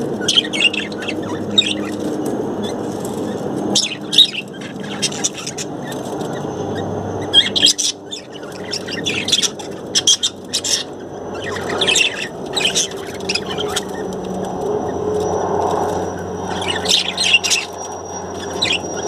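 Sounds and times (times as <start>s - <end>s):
budgerigars chirping: 0.0s - 19.0s.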